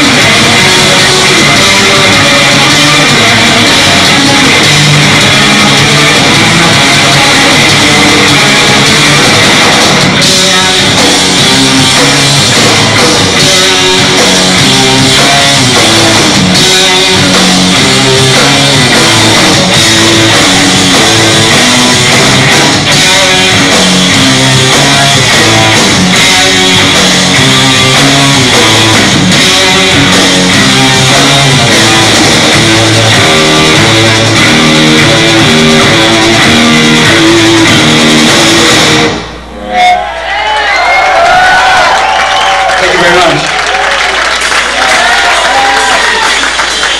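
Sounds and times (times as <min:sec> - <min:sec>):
distorted electric guitar riffing: 0:00.0 - 0:40.4
bass and drums: 0:00.0 - 0:46.9.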